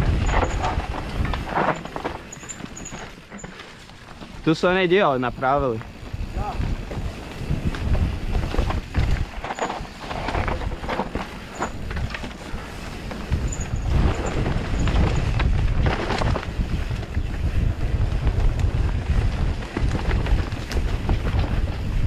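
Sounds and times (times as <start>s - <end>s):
wind buffeting microphone: 0.0s - 3.1s, 4.0s - 22.0s
bike knocks and rattles: 0.0s - 22.0s.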